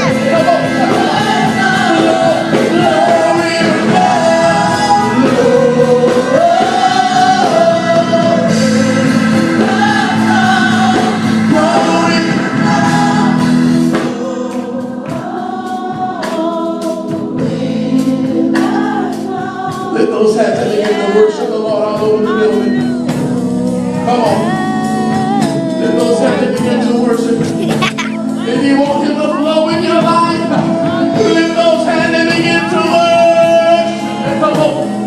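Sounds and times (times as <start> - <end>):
choir singing gospel: 0.0 - 35.0
instrumental accompaniment: 0.0 - 35.0.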